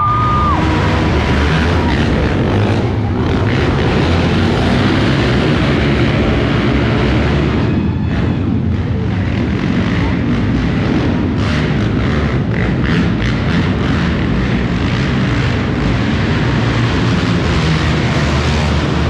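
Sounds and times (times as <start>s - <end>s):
monster truck engine rumbling: 0.0s - 19.0s.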